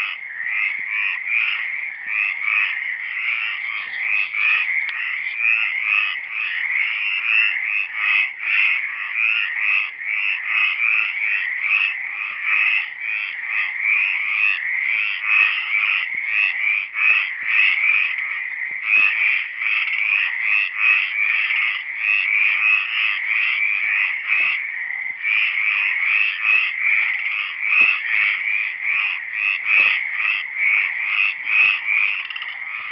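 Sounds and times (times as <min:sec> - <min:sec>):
chorus of frogs croaking: 0:00.0 - 0:32.9.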